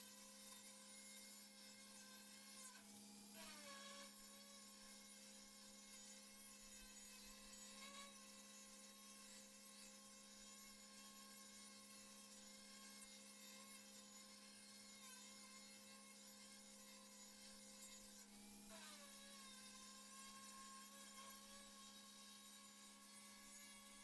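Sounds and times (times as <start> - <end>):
faint angle grinder whine: 0.0 - 24.0.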